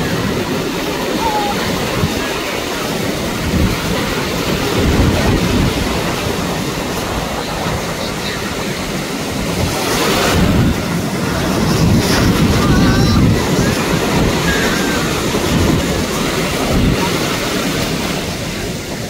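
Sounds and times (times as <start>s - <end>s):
sea surf washing: 0.0s - 19.0s
wind buffeting microphone: 0.0s - 19.0s.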